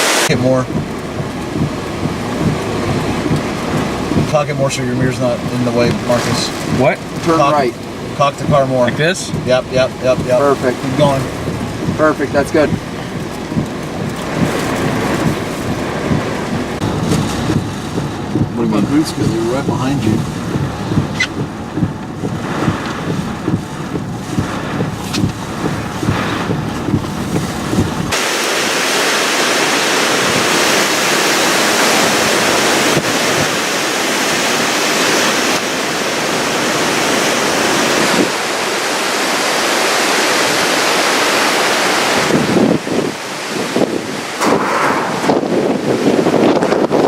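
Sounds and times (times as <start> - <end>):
wind and driving rain: 0.0 - 47.0
wind buffeting microphone: 0.2 - 47.0.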